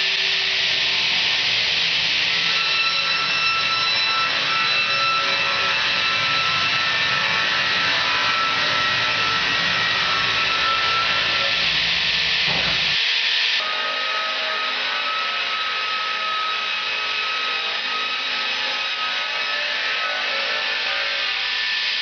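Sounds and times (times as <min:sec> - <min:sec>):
saw whining: 0:00.0 - 0:22.0.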